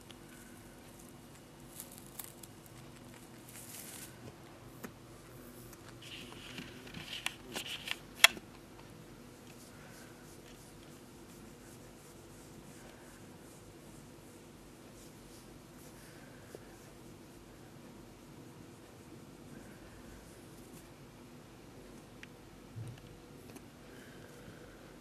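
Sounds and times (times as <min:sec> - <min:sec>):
rabbit nibbling dried grass: 0:00.0 - 0:24.5.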